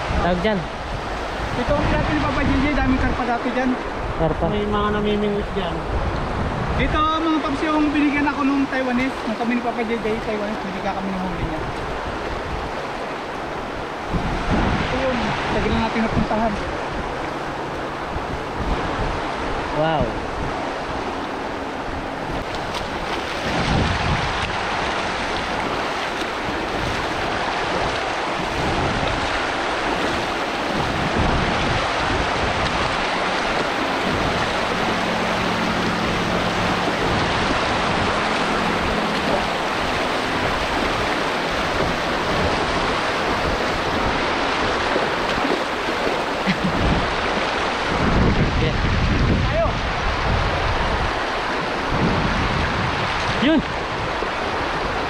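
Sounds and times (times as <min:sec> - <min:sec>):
river water rushing: 0:00.0 - 0:55.0
wind on microphone: 0:00.0 - 0:55.0.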